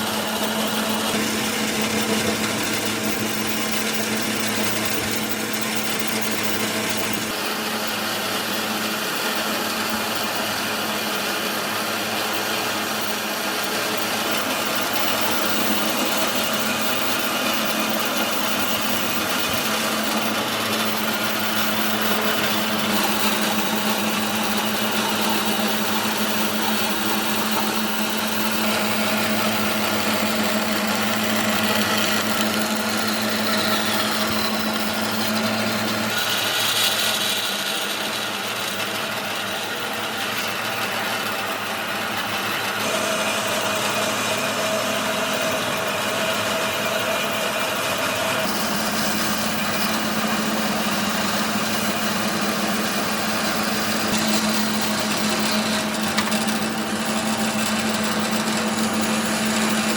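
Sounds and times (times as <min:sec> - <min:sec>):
woodworking power tool running: 0:00.0 - 0:59.9.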